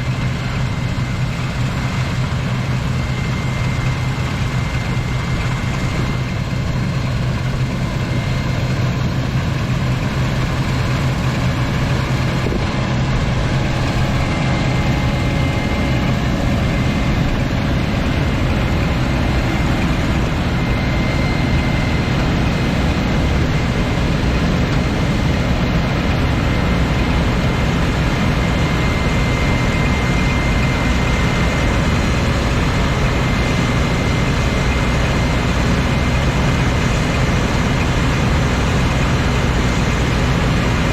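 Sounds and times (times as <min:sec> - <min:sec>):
combine harvester running: 0:00.0 - 0:40.9
faint high whine: 0:00.0 - 0:40.9.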